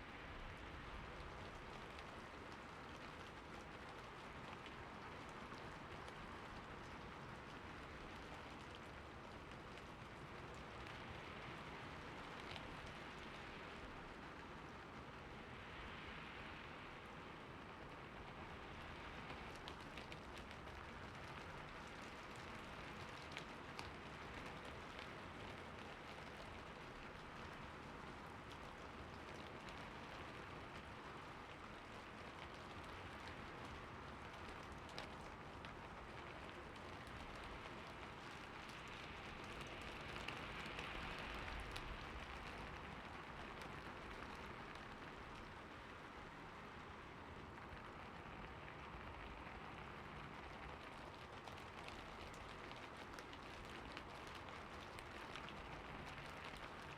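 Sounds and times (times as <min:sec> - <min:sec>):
steady rain falling: 0:00.0 - 0:56.9
raindrop ticks: 0:00.1 - 0:56.9.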